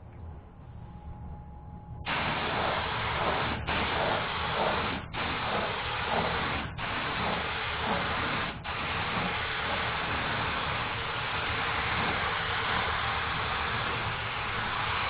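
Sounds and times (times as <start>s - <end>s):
paint spray gun hissing: 2.1s - 15.0s.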